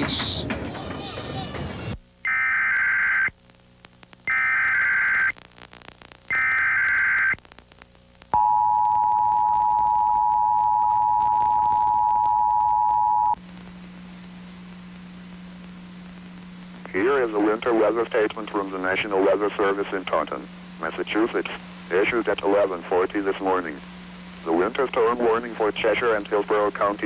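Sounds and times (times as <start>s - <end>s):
low steady hum: 3.3s - 27.0s.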